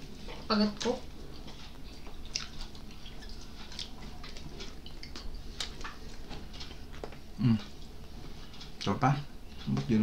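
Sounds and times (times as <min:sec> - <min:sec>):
people chewing with mouth clicks: 0:00.2 - 0:08.9.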